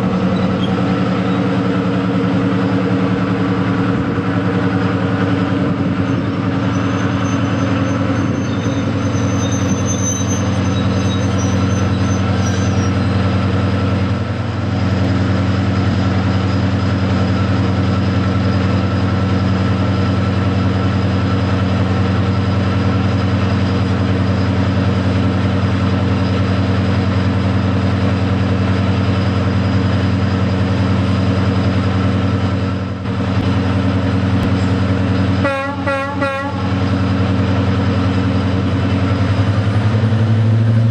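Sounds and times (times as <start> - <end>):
diesel locomotive engine drone: 0.0 - 40.9.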